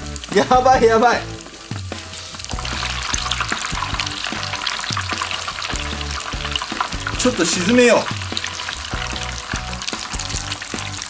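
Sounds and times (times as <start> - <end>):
background music with bass: 0.0 - 11.0
food deep-frying in oil: 0.0 - 11.0.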